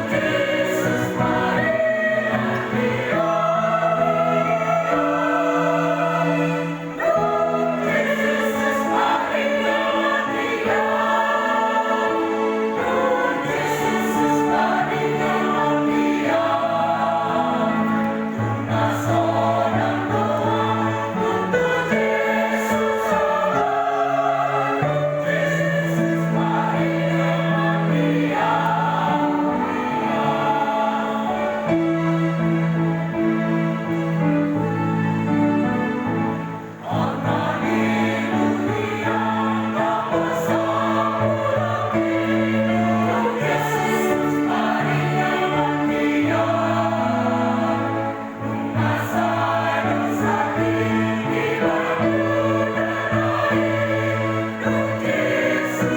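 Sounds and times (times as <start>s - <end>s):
choir singing in parts: 0.0s - 55.9s.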